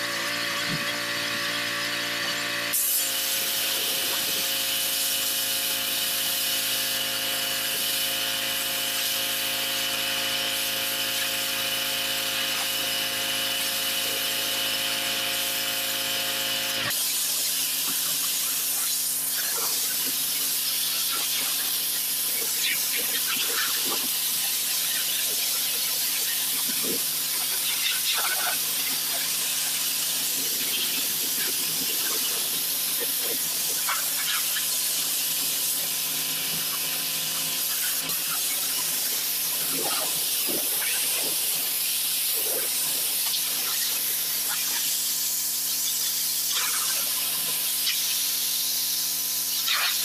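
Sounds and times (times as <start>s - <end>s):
pressure washer spraying concrete: 0.0s - 50.0s.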